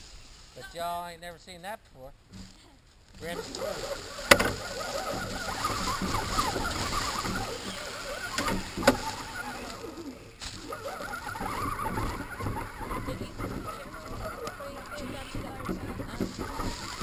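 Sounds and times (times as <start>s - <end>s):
tyres crunching through leaves: 0.0s - 1.5s, 2.2s - 17.0s
toy truck motor whine: 3.3s - 17.0s.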